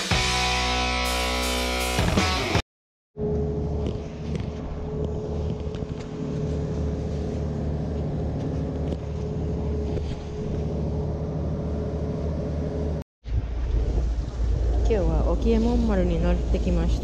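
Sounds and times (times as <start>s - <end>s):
boat engine droning with whine: 3.2s - 17.0s.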